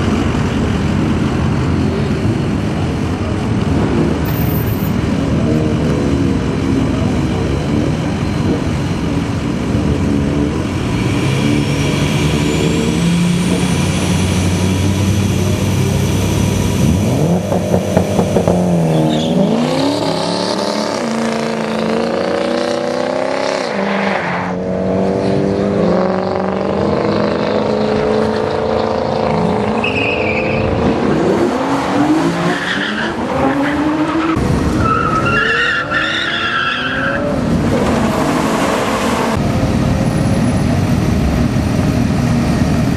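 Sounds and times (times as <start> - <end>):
diesel truck engines revving: 0.0 - 4.3, 4.9 - 42.9.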